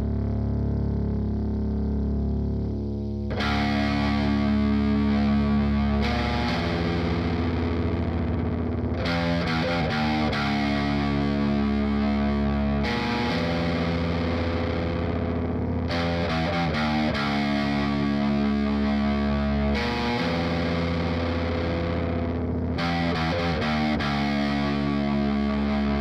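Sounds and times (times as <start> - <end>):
distorted electric guitar chords: 0.0 - 26.0.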